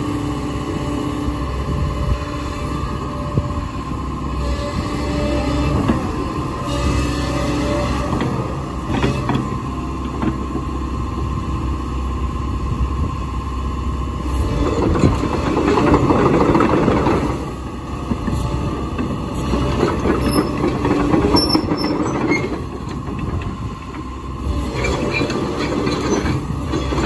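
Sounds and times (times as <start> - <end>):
excavator diesel engine running: 0.0 - 27.0
hydraulic whine: 0.0 - 27.0.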